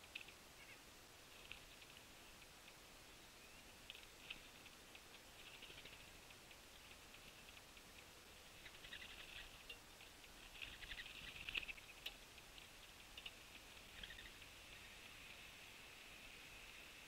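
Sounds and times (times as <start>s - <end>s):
birds pecking seed: 0.0s - 17.0s.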